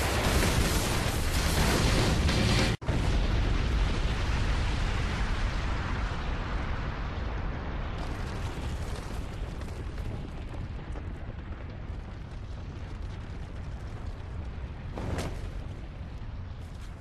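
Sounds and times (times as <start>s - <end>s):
deep explosion rumble: 0.0s - 17.0s.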